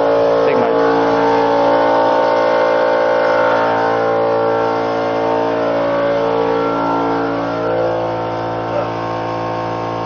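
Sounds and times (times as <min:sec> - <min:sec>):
engine droning hum: 0:00.0 - 0:10.0.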